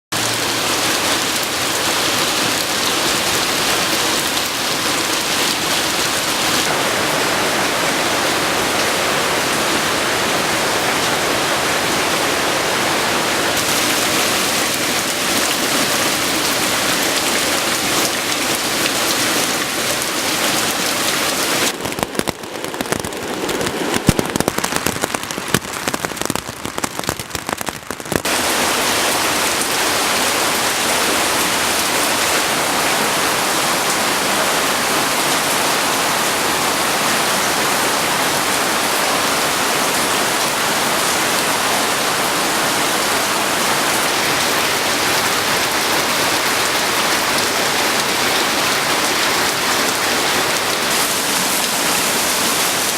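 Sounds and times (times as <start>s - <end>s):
fast-running floodwater: 0.0s - 52.9s
heavy rain: 0.1s - 52.9s.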